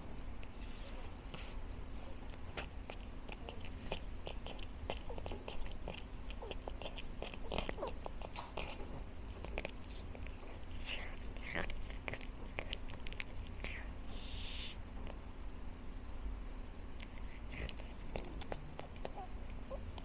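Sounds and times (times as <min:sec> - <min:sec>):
cat chewing food: 0:00.4 - 0:15.2, 0:17.0 - 0:20.0.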